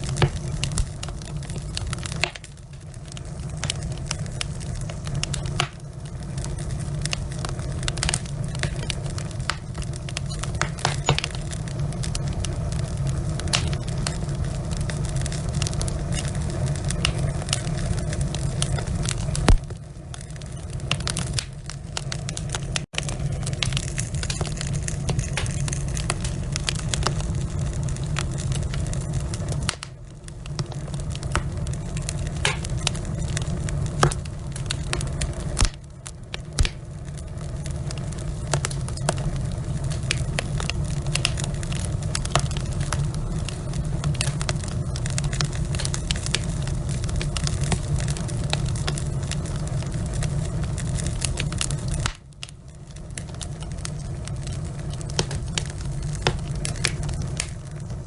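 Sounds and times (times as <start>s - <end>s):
burning wood crackling and popping: 0.0s - 58.0s
fire rumbling: 0.0s - 58.0s.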